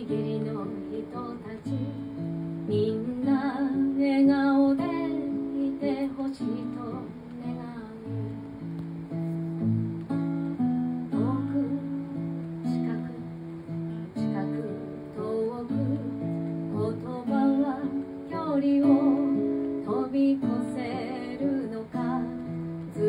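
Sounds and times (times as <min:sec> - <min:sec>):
woman singing: 0:00.0 - 0:08.8, 0:10.0 - 0:23.0
acoustic guitar strumming chords: 0:00.0 - 0:23.0.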